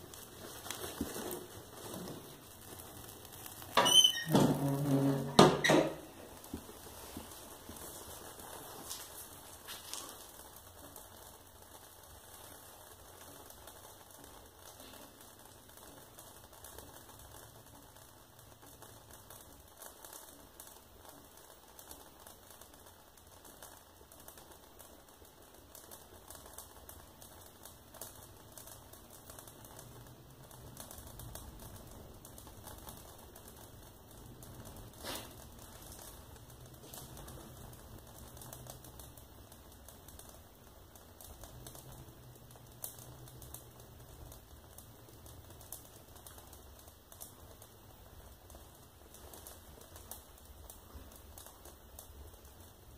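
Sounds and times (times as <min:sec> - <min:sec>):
fire popping: 0:00.0 - 0:52.9
wood stove fire crackling: 0:00.0 - 0:52.9.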